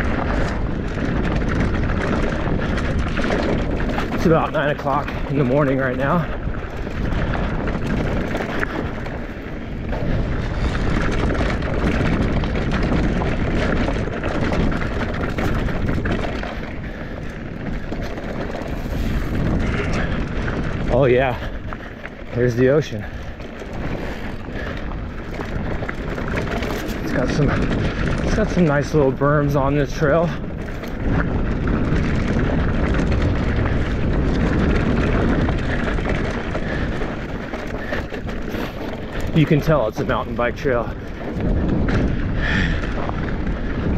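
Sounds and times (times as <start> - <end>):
bike clicks and rattles: 0.0 - 43.9
bike tyres rolling over gravel: 0.0 - 43.9
wind on microphone: 0.0 - 43.9.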